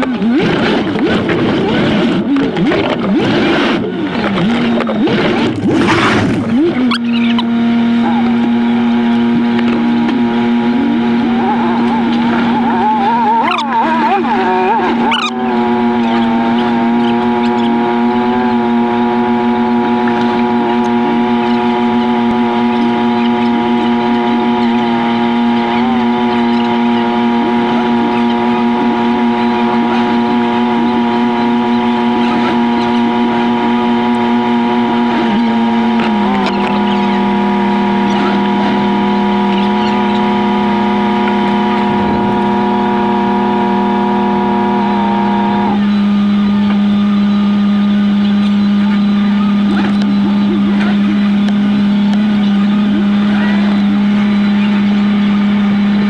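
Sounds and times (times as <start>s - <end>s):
high-pitched buzzing engine drone: 0.0s - 56.0s.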